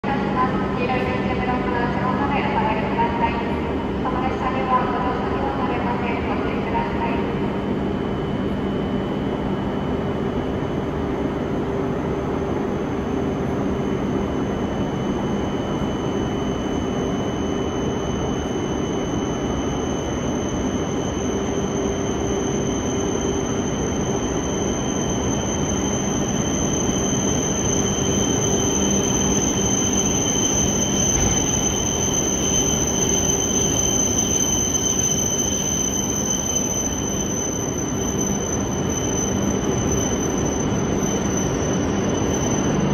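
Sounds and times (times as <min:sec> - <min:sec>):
train rumble with high whine: 0:00.0 - 0:42.9.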